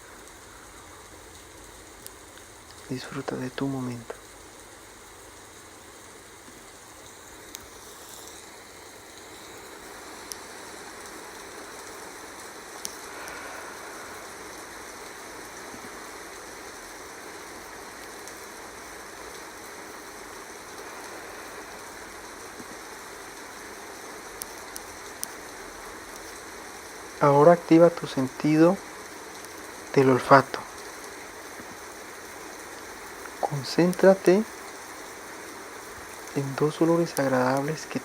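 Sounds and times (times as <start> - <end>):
rain falling: 0.0 - 38.0
raindrop clicks: 0.2 - 38.0.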